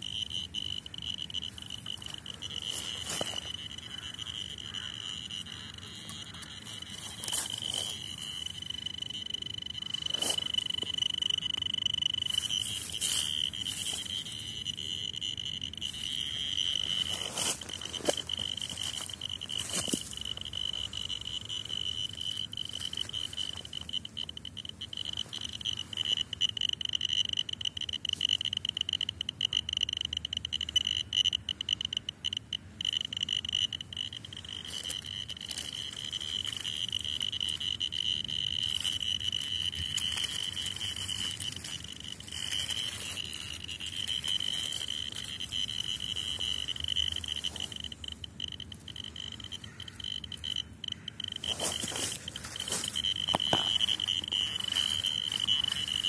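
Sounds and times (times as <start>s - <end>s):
dosimeter beeper continuous tone: 0.0s - 56.0s
rapid crackling clicks: 0.0s - 56.0s.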